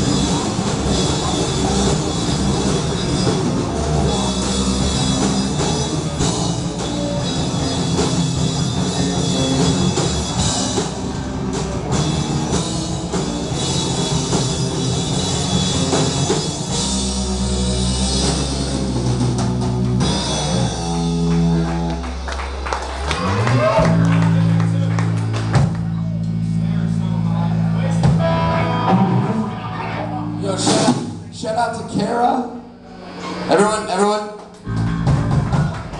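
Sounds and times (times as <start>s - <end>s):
drum kit: 0.0s - 29.6s, 30.2s - 35.9s
electric guitars: 0.0s - 33.5s, 34.4s - 35.9s
bass guitar: 0.0s - 35.9s.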